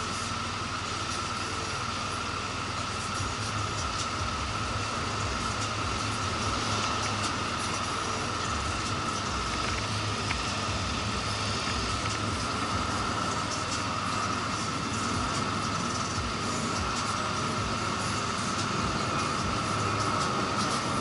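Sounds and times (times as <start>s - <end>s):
motorcycle engine and road rumble: 0.0s - 21.0s.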